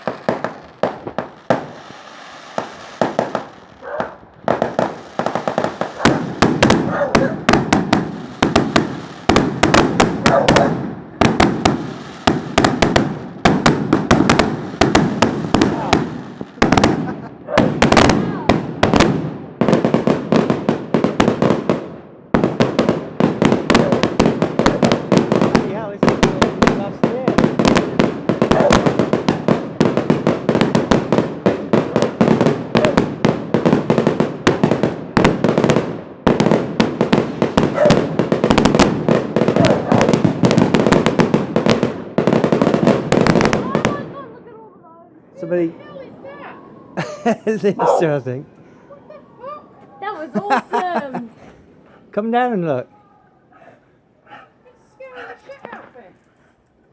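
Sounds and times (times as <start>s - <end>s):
fireworks bangs and crackles: 0.0s - 48.5s, 54.8s - 56.2s.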